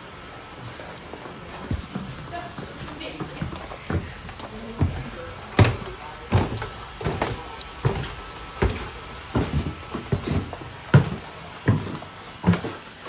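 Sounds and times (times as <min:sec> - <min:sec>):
footsteps climbing stairs: 0:00.5 - 0:13.0.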